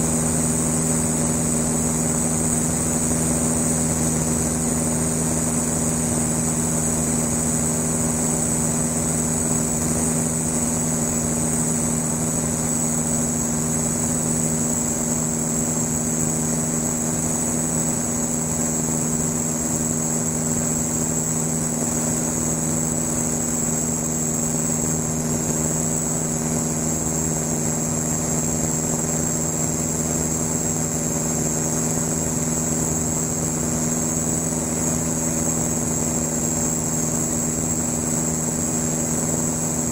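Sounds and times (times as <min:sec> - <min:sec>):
aircraft engine and propeller droning: 0:00.0 - 0:39.9
high-pitched whine: 0:00.0 - 0:39.9.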